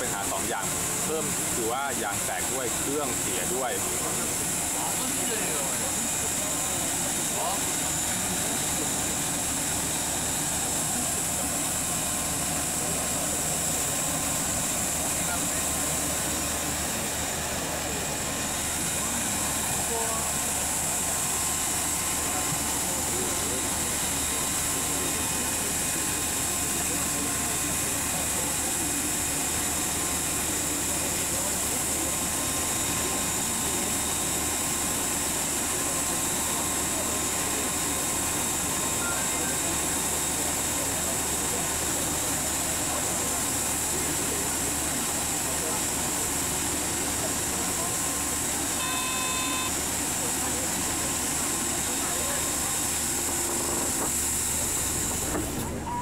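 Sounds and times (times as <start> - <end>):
jet engine whine and rumble: 0.0 - 56.0.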